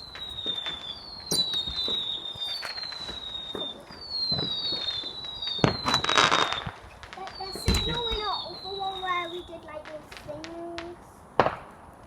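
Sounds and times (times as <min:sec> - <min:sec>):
firework bang: 0:00.0 - 0:11.9
firework whistles: 0:00.0 - 0:11.9
firework crackles and pops: 0:00.0 - 0:12.0.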